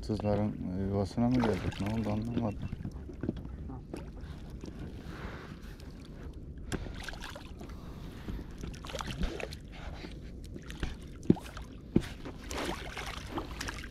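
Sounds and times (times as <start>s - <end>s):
water lapping against boat: 0.0s - 13.9s.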